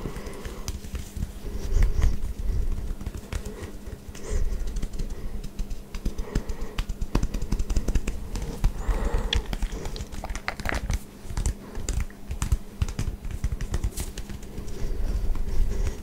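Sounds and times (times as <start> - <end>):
hands scratching short hair: 0.0 - 16.0
muffled palm thumps: 0.0 - 16.0.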